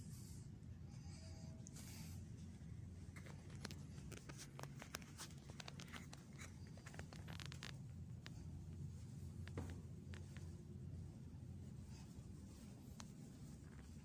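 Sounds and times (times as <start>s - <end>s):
low steady hum: 0.0s - 14.0s
light clicks and rustles: 1.6s - 14.0s.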